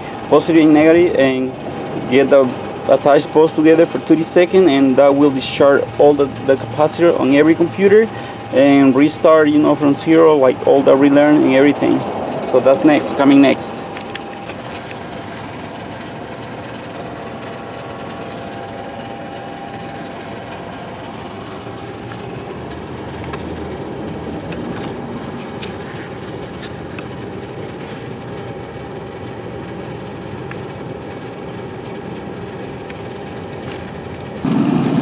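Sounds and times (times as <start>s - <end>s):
mechanical running noise: 0.0s - 35.0s.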